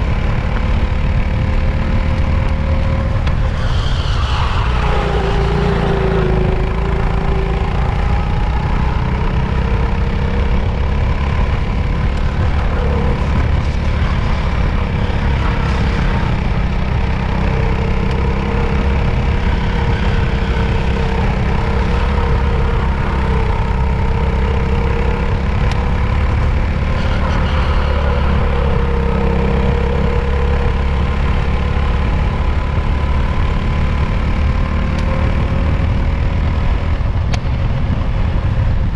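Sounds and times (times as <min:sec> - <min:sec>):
go-kart engine running hard: 0:00.0 - 0:38.9.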